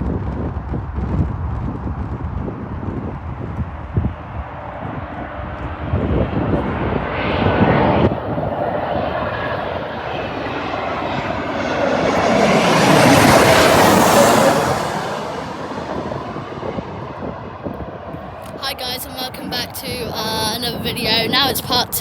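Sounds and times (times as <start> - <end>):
airliner engines roaring: 0.0 - 22.0.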